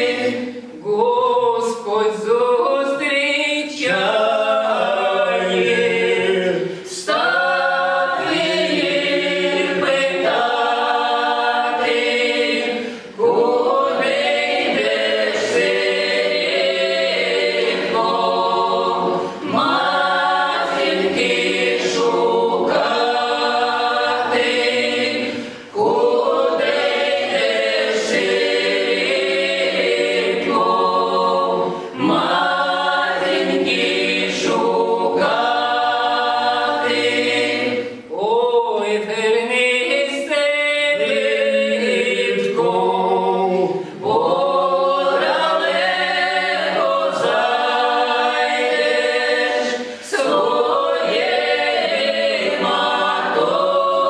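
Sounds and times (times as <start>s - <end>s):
mixed choir singing a cappella: 0.0s - 54.0s.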